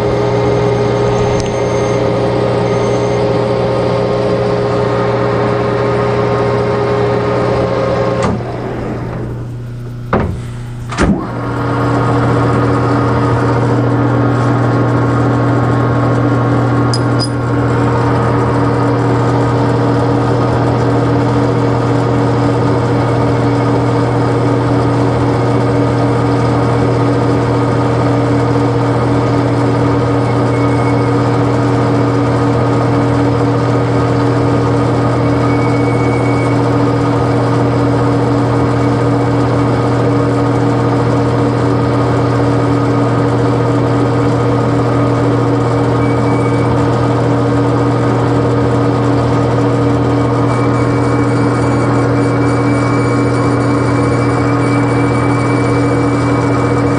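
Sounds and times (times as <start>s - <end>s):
metal lathe humming: 0.0s - 56.9s.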